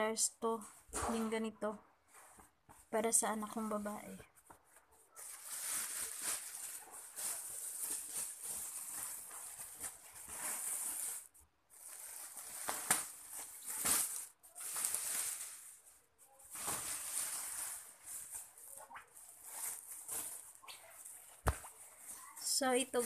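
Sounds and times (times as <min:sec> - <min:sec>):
plastic bags rustling: 0:03.5 - 0:23.0.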